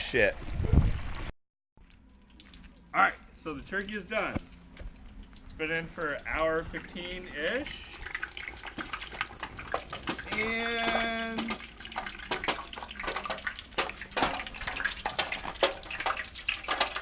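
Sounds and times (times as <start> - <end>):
frying oil crackling and sizzling: 0.7 - 17.0.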